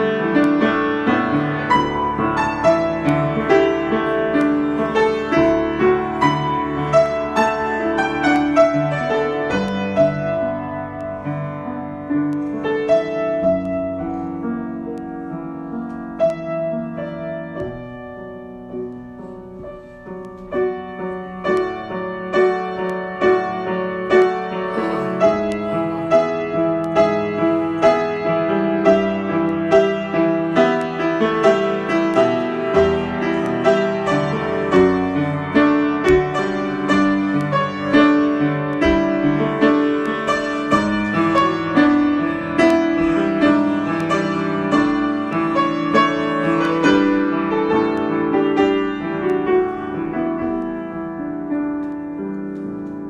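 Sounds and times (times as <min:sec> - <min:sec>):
solo piano improvisation: 0:00.0 - 0:53.0.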